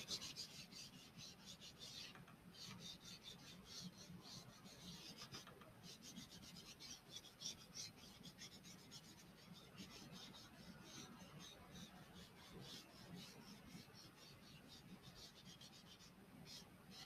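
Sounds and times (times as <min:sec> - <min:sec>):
tissue rubbing chalk on paper: 0:00.0 - 0:17.0.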